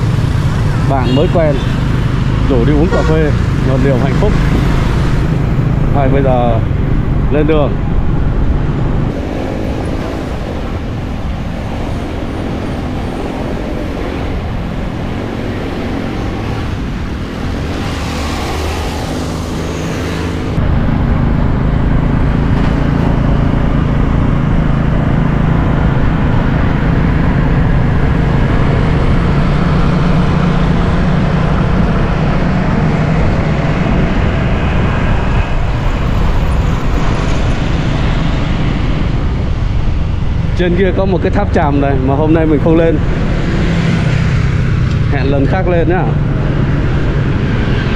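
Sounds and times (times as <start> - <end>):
motorbike engine hum: 0.0 - 47.9
road and wind noise: 0.0 - 47.9.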